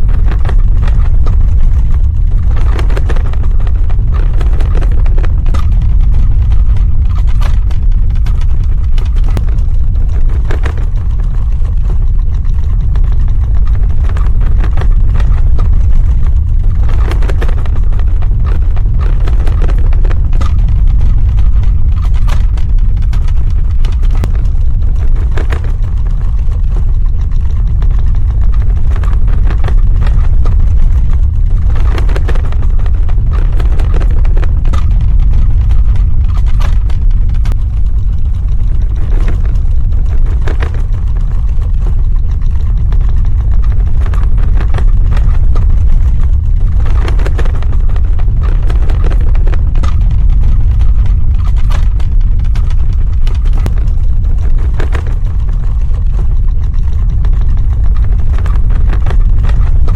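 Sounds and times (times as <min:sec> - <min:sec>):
crackling and rattling: 0:00.0 - 0:59.9
deep earthquake rumble: 0:00.0 - 0:59.9.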